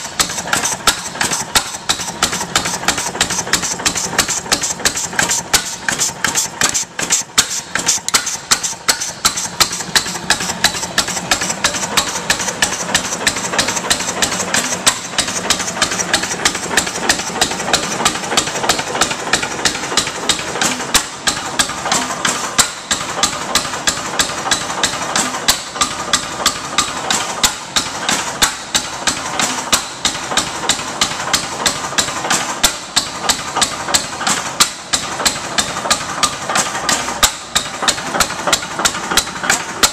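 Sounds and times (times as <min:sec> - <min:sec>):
hit-and-miss engine running: 0:00.0 - 0:39.9.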